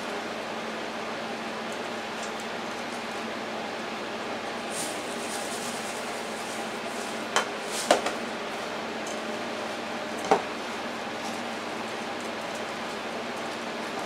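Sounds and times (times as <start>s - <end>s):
steady low hum: 1.8s - 13.5s.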